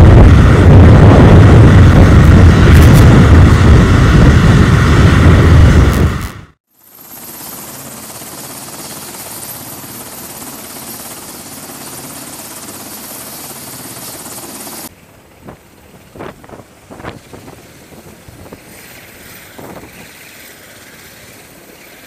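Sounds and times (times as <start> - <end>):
helicopter running: 0.0 - 22.0.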